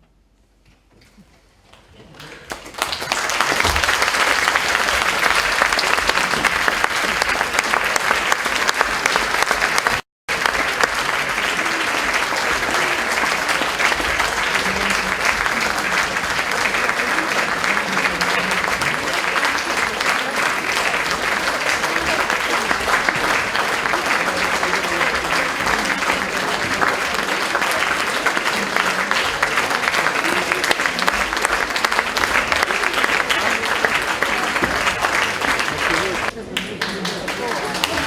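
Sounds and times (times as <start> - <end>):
audience applauding: 2.2 - 38.0.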